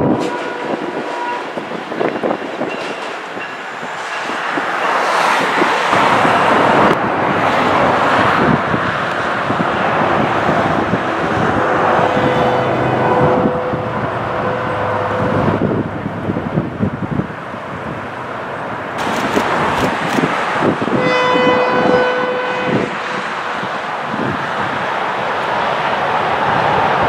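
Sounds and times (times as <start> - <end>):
road traffic noise: 0.0 - 27.0
train engine and wheel rumble: 0.0 - 27.0.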